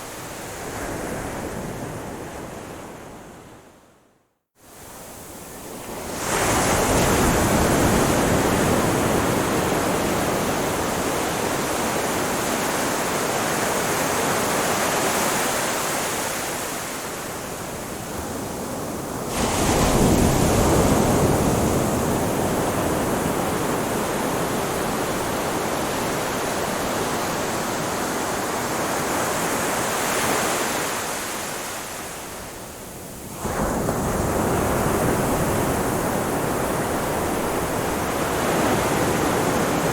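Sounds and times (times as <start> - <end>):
ocean waves on a beach: 0.0 - 3.9, 4.6 - 39.9.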